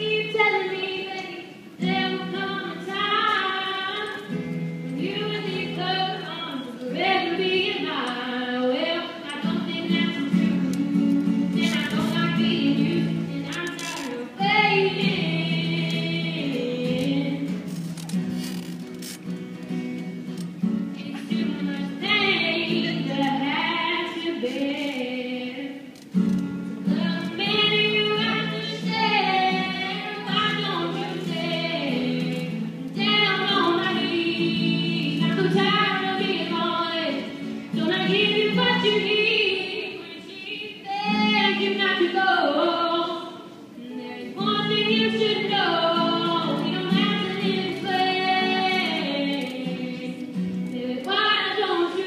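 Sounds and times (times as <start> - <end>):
girl singing: 0.0 - 17.9, 20.9 - 25.9, 26.9 - 52.0
acoustic guitar: 0.0 - 52.0.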